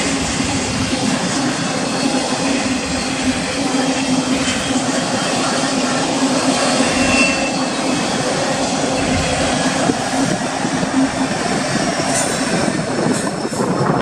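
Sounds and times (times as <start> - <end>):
steel wheels clattering on rail: 0.0 - 14.0.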